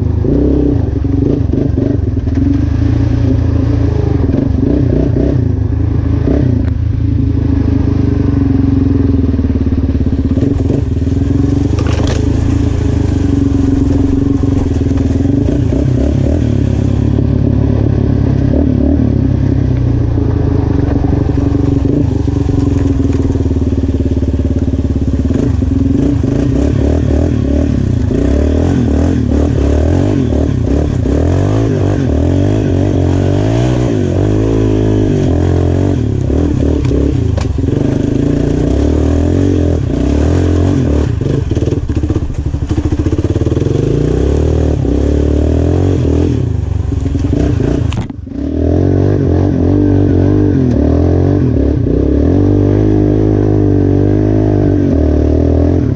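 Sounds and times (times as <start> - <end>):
quad bike engine revving: 0.0 - 55.9.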